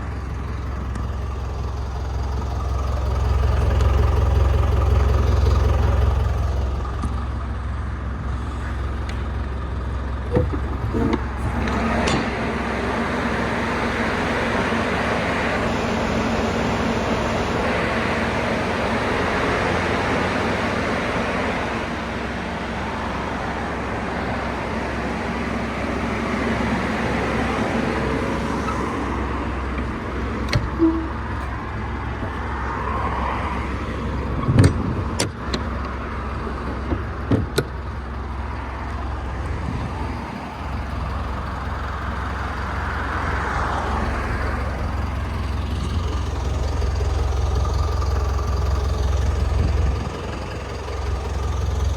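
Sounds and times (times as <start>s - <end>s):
truck engine idling: 0.0s - 51.9s.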